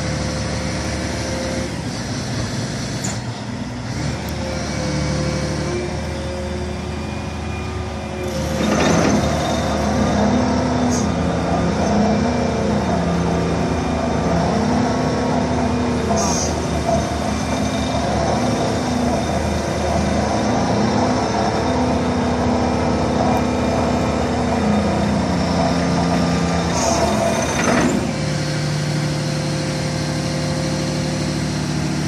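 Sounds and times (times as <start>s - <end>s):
excavator engine and hydraulics: 0.0s - 32.0s.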